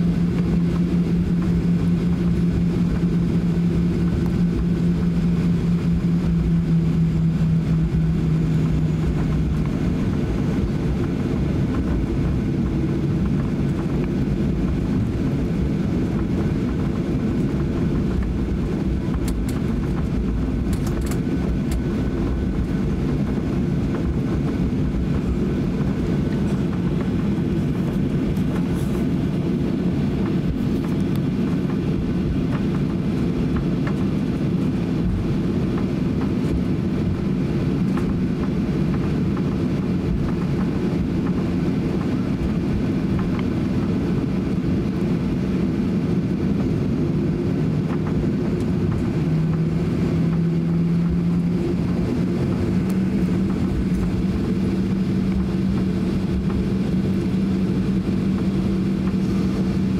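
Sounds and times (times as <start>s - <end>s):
airliner cabin engine hum: 0.0s - 59.9s.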